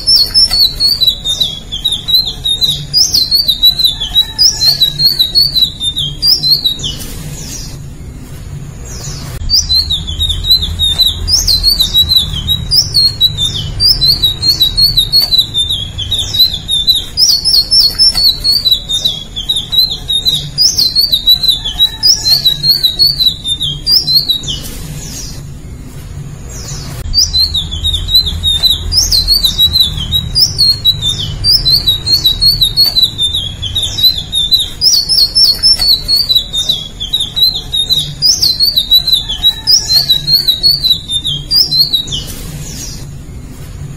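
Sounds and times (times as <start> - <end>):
bird warbling song: 0.0 - 43.9.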